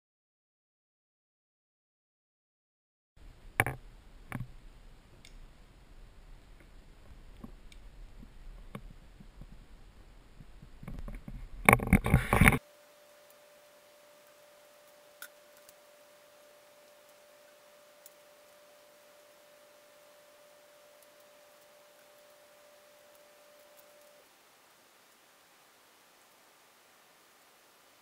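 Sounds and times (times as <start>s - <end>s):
faint steady hum: 3.2s - 28.0s.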